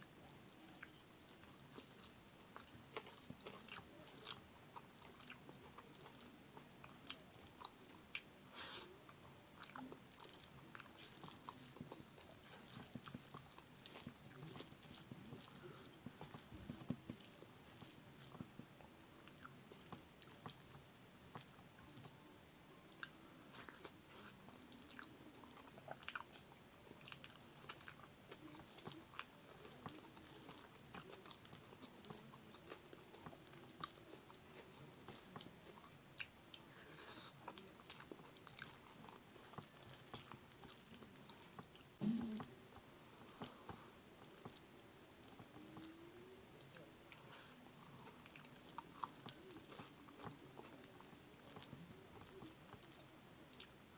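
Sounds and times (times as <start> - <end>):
person chewing: 0.0 - 8.9, 9.6 - 22.3, 22.9 - 53.8.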